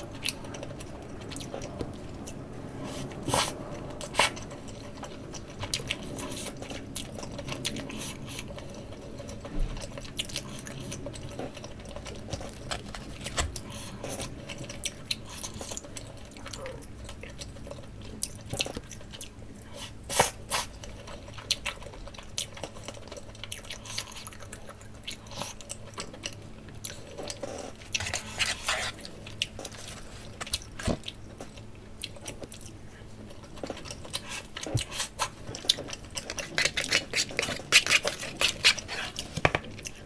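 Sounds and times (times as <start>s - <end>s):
chewing and biting: 3.1s - 40.0s.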